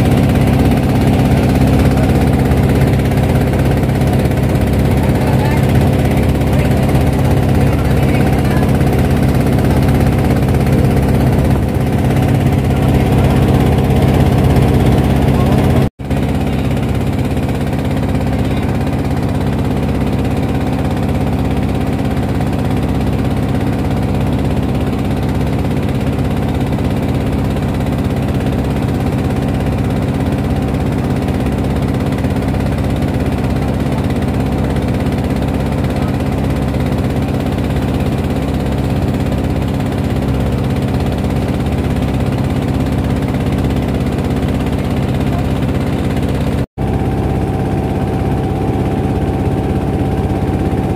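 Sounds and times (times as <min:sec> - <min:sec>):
motorboat engine droning: 0:00.0 - 0:50.9.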